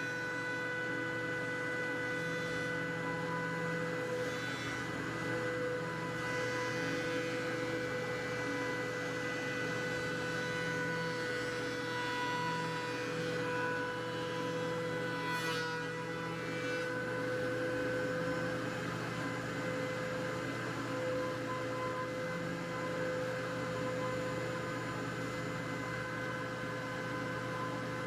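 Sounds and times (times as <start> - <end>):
thickness planer whining: 0.0 - 28.0.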